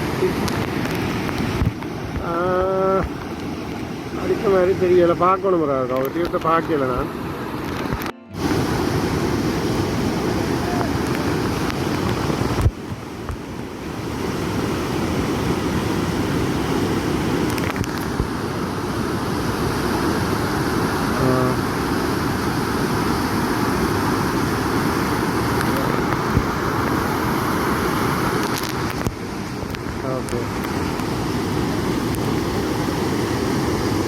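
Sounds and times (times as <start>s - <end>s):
fast-flowing floodwater rushing: 0.0s - 34.0s.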